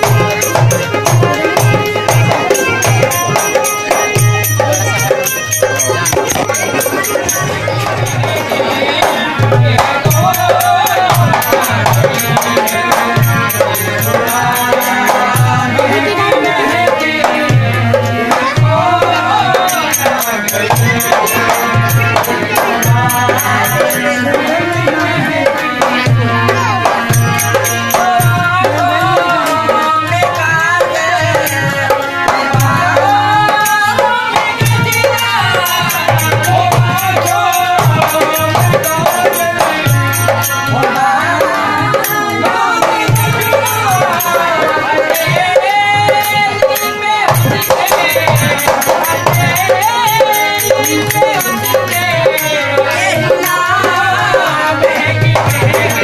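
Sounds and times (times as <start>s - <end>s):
high rhythmic jingling: 0.0s - 17.5s, 18.8s - 24.6s, 31.4s - 56.0s
hand drum beating: 0.0s - 56.0s
harmonium: 0.0s - 56.0s
person singing: 0.0s - 56.0s.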